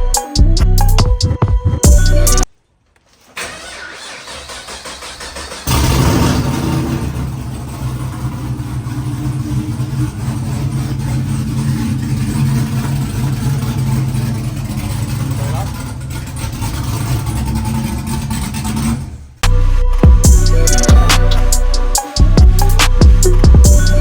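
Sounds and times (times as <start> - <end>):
car starter cranking: 3.2 - 24.0
car engine idling: 3.4 - 24.0.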